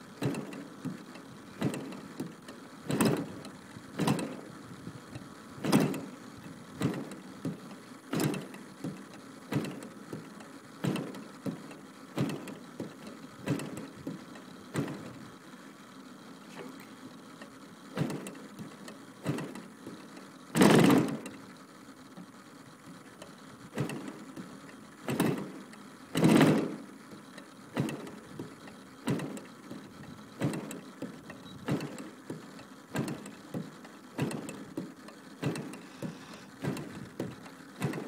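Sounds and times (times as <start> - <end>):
loud engine pops: 0.0 - 15.4, 16.5 - 38.0
engine being cranked over: 0.0 - 15.6, 16.2 - 38.0.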